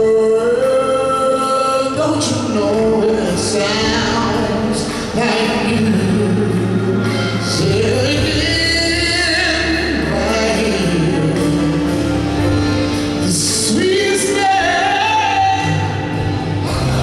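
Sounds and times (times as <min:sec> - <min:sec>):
man singing gospel: 0:00.0 - 0:12.2, 0:13.1 - 0:17.0
instrumental backing: 0:00.0 - 0:17.0.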